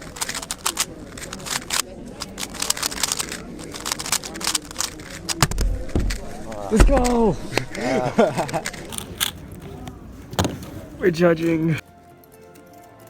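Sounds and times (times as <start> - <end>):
faint voices: 0.0 - 11.8
puzzle cube clicking and clacking: 0.0 - 11.8.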